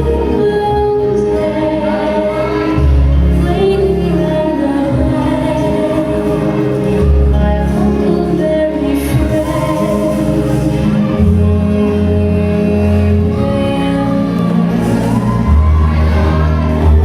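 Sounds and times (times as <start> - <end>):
ballroom dance music with singer: 0.0 - 17.0.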